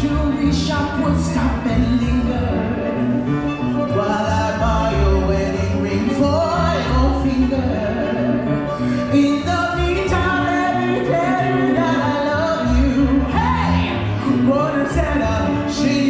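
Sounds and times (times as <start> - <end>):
person singing: 0.0 - 3.2, 3.8 - 16.0
live swing band music: 0.0 - 16.0.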